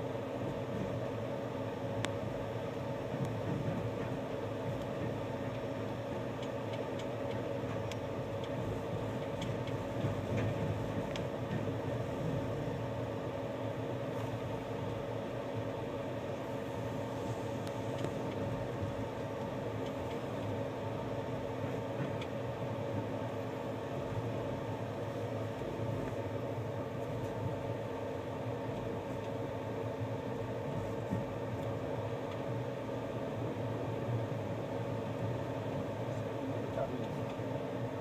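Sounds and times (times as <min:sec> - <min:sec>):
train running noise inside coach: 0:00.0 - 0:38.0.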